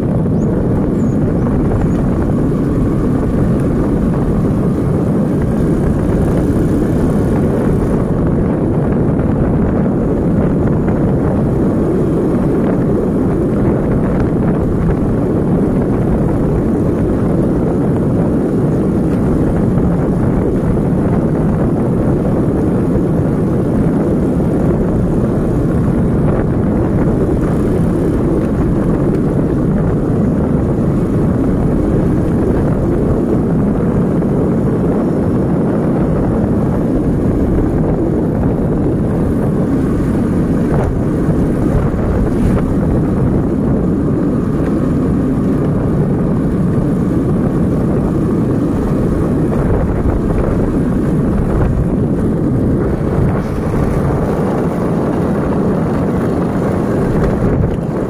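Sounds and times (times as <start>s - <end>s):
motorcycle engine running: 0.0s - 58.0s
tyres on paved road: 0.0s - 58.0s
wind buffeting microphone: 0.0s - 58.0s.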